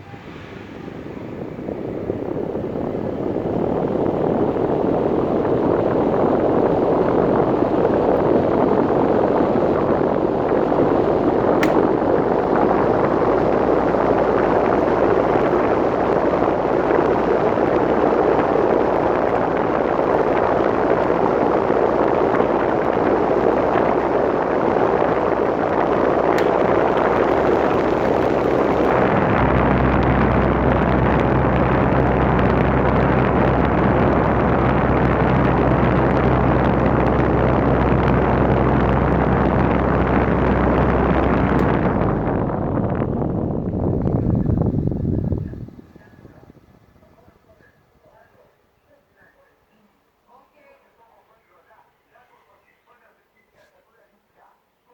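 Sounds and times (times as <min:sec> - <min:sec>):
electric fan rushing air: 0:00.0 - 0:48.4
low hum: 0:00.0 - 0:49.0.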